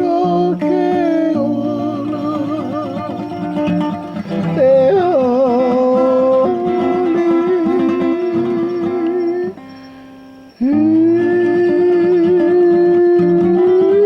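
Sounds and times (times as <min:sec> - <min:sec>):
acoustic guitar chords: 0:00.0 - 0:14.0
person singing a hymn: 0:00.0 - 0:14.0.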